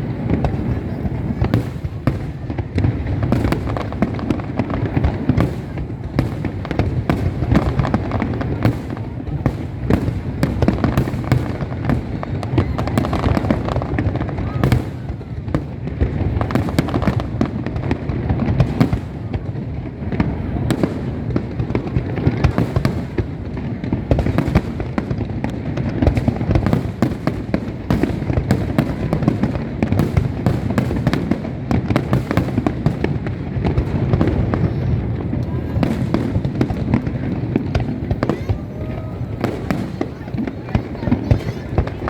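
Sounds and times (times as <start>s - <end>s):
fireworks booms and bangs: 0.0s - 42.0s.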